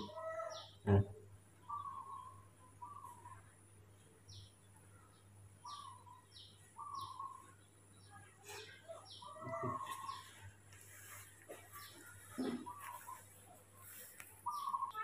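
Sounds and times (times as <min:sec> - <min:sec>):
faint high chirping calls: 0:00.0 - 0:15.0.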